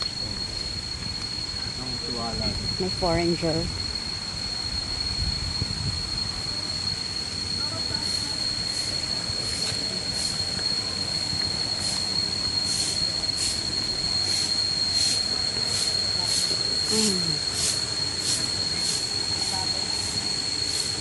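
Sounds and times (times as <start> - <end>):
insects whining and chirring: 0.0 - 21.0.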